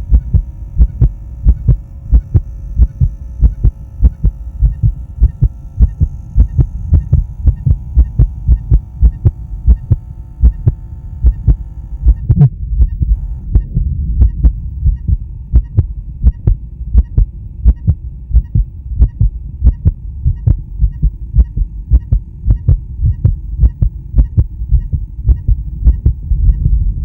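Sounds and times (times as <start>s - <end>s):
heart beating: 0.0s - 27.0s
low hum: 0.0s - 27.0s.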